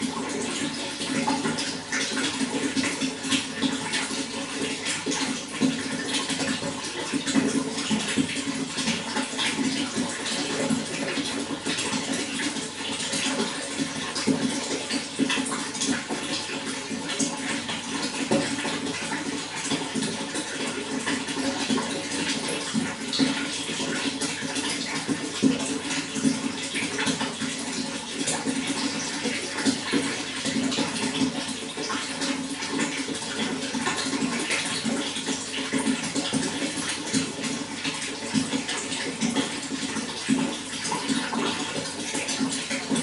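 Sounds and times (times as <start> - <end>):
running water splashing: 0.0 - 43.0.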